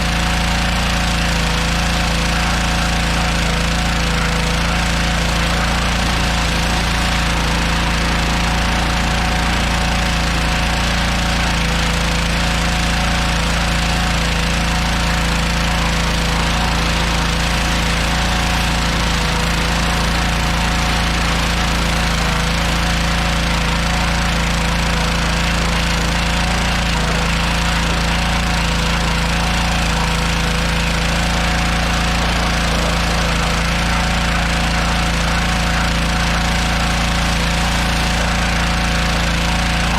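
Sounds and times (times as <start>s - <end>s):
pressure washer engine humming: 0.0s - 39.9s.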